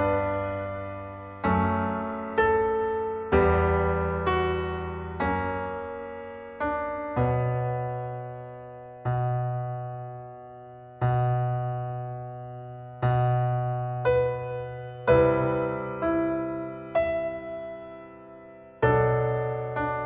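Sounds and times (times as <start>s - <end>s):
slow soft piano chords: 0.0s - 20.0s.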